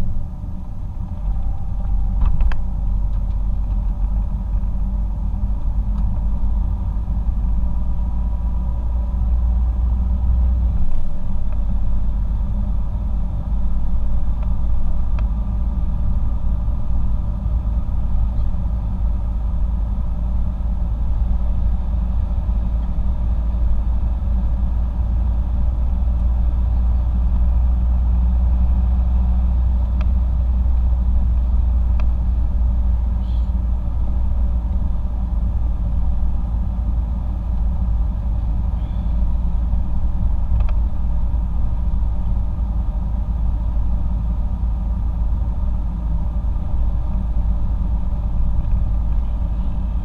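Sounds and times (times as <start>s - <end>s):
tyre and engine rumble: 0.0s - 50.0s.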